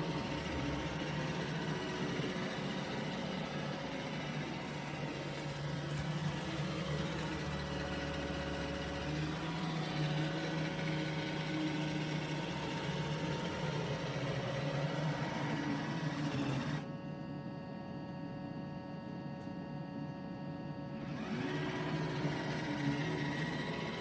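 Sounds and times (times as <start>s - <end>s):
robot vacuum motor whirring: 0.0s - 16.9s, 21.0s - 24.0s.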